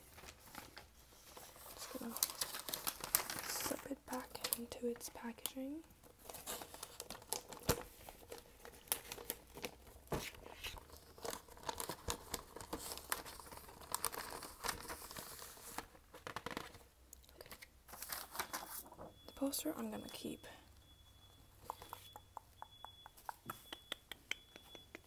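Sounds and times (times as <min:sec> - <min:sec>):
paper and plastic crinkling: 0:00.0 - 0:20.4.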